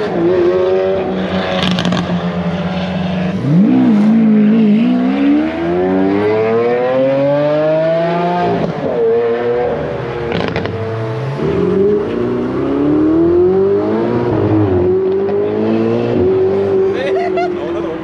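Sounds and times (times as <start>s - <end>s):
sports car engine accelerating: 0.0s - 18.0s.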